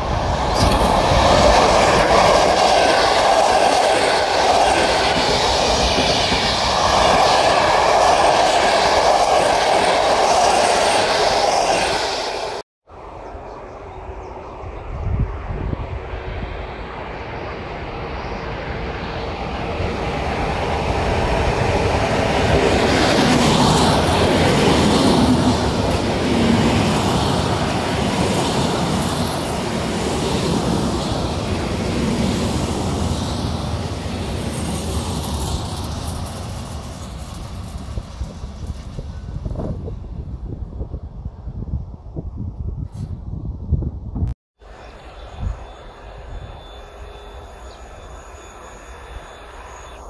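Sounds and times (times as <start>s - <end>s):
train passing: 0.0s - 41.7s, 44.6s - 50.0s.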